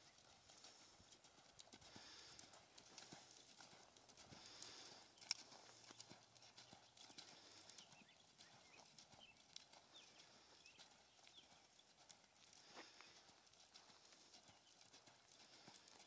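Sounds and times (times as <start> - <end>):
horse hooves thudding on sand: 0.0 - 16.0.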